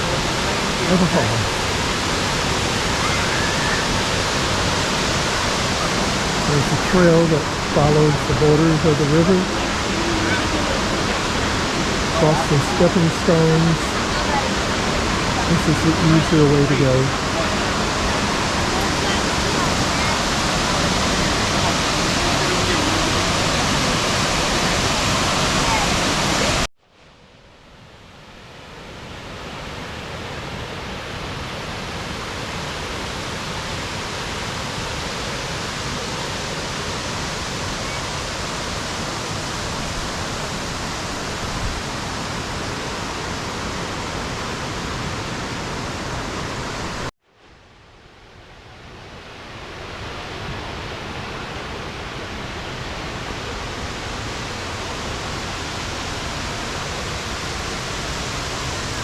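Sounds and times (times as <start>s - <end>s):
waterfall rushing: 0.0s - 26.7s, 28.7s - 47.1s, 48.5s - 59.0s.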